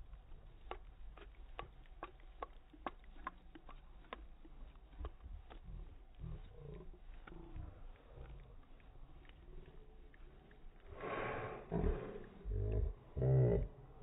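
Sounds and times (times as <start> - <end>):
slowed-down outdoor ambience: 0.0 - 14.0.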